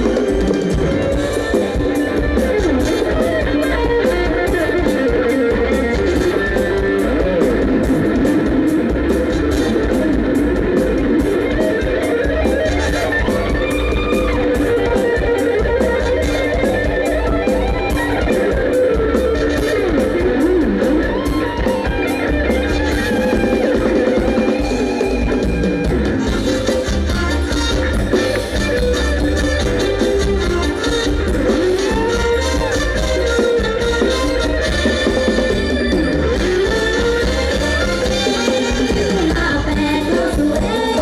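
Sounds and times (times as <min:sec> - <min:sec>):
drum kit and bass: 0:00.0 - 0:41.0
electric guitar: 0:00.0 - 0:41.0.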